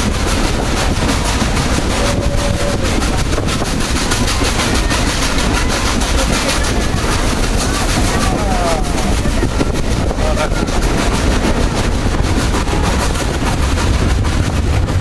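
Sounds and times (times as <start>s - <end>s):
train rumble: 0.0s - 15.0s
wheels clattering on rail: 0.0s - 15.0s.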